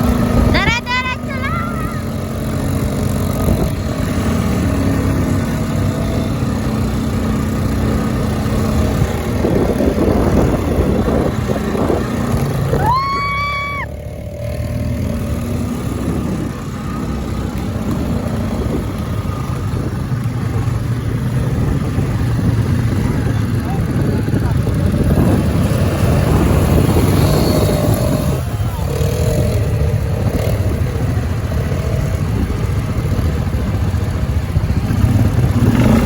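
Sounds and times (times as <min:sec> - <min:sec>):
quad bike engine running: 0:00.0 - 0:36.0.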